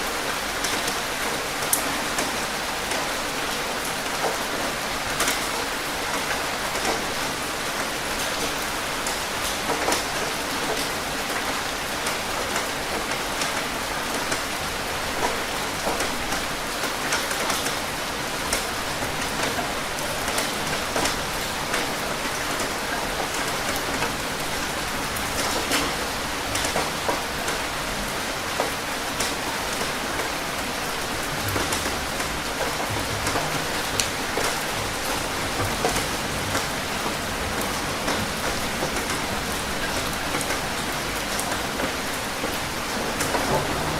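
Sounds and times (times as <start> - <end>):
steady rain with drop impacts: 0.0 - 43.9.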